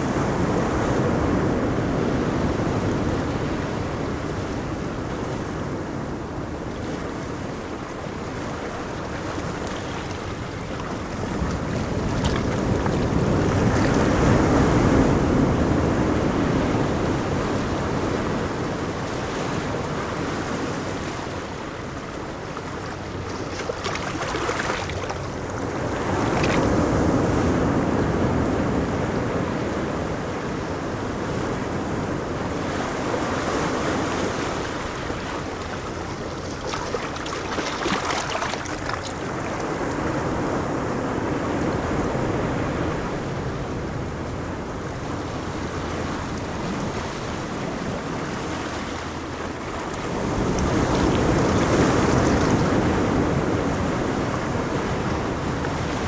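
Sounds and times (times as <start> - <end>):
ocean waves breaking: 0.0 - 56.0
wind on microphone: 0.0 - 56.0.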